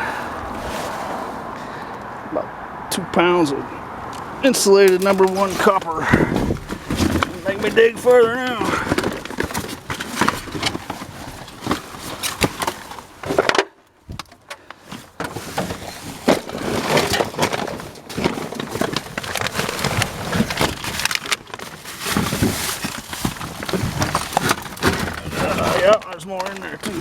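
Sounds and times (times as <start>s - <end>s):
junk clattering and scraping: 4.4s - 27.0s.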